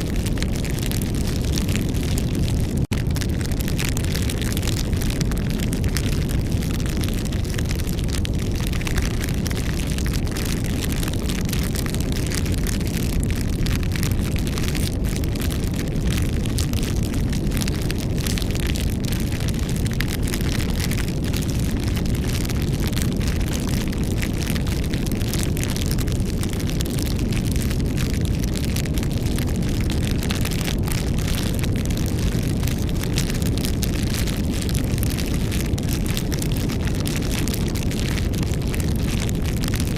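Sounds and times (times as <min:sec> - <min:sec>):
flames rumbling: 0:00.0 - 0:39.9
wood crackling and popping: 0:00.0 - 0:39.9.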